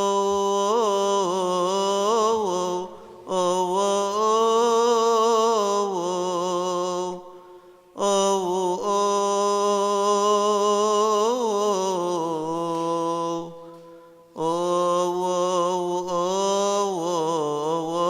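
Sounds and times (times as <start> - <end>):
man chanting a hymn solo: 0.0 - 18.0.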